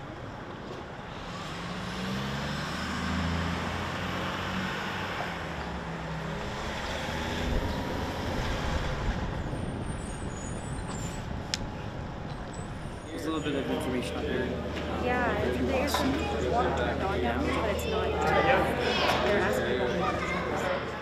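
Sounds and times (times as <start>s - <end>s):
heavy vehicle engine running: 0.0s - 21.0s
road noise: 0.0s - 21.0s.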